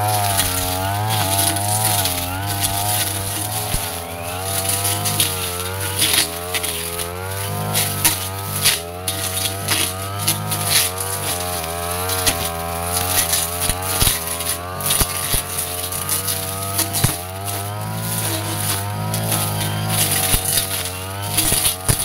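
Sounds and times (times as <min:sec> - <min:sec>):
blade snapping stems: 0:00.0 - 0:22.0
brush cutter engine: 0:00.0 - 0:22.0.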